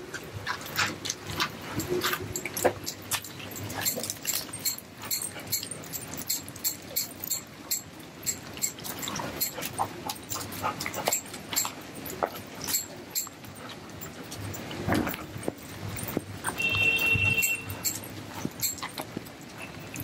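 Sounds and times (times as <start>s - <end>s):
rain pattering and dripping: 0.0s - 20.0s.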